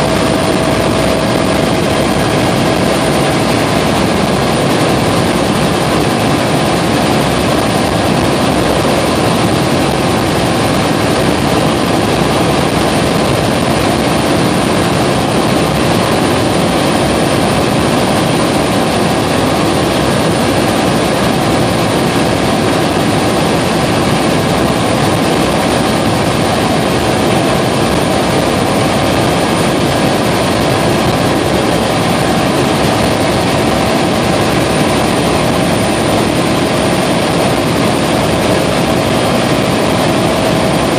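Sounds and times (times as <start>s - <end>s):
helicopter engine and rotor noise: 0.0s - 40.9s.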